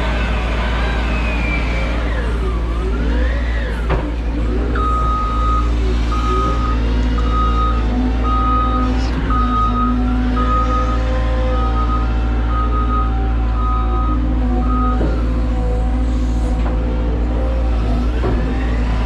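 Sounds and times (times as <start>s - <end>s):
excavator engine and hydraulics: 0.0s - 19.0s
hydraulic whine: 0.0s - 19.0s.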